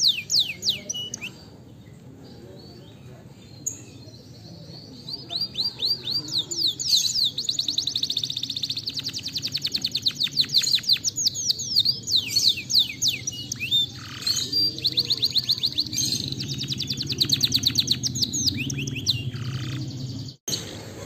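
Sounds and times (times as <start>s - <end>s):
canary singing: 0.0s - 1.4s, 3.5s - 20.7s.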